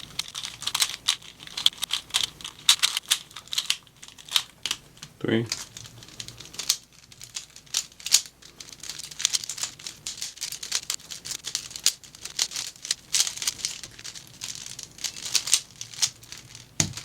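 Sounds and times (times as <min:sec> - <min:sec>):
puzzle cube clattering: 0:00.0 - 0:17.0.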